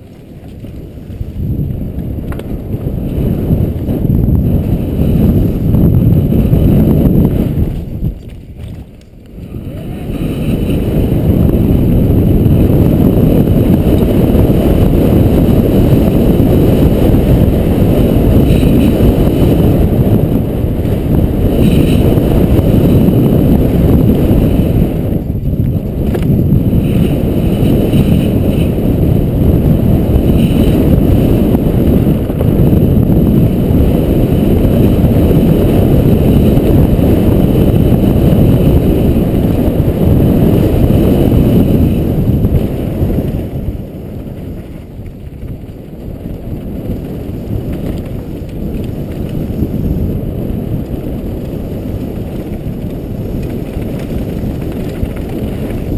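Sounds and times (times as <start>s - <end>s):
bike tyres rattling on dirt: 0.0s - 55.9s
wind on microphone: 0.0s - 55.9s.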